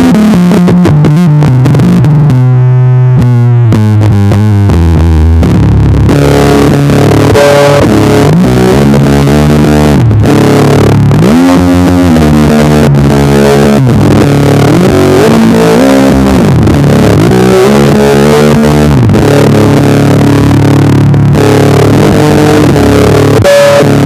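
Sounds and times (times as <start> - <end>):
distorted electric bass riff: 0.0 - 24.0.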